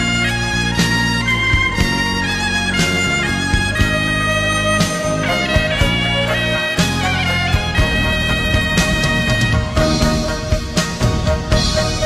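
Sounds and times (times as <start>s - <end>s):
background music held notes: 0.0s - 12.0s
percussion hits: 0.0s - 12.0s.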